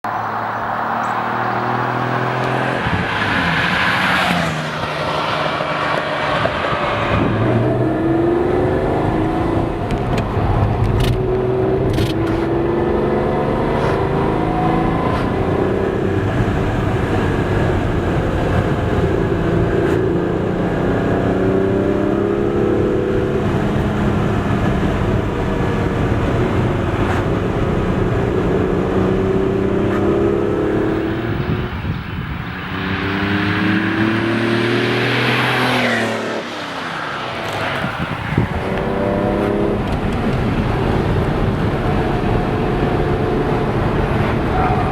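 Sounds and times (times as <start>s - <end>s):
sports car engine accelerating: 0.1s - 44.9s.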